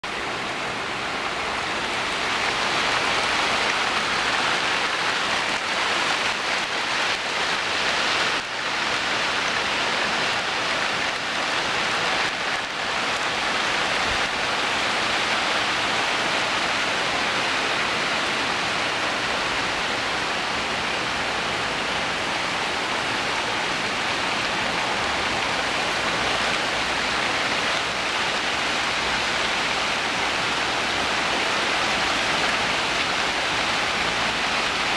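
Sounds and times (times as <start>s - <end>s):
hard rain falling: 0.0s - 34.9s.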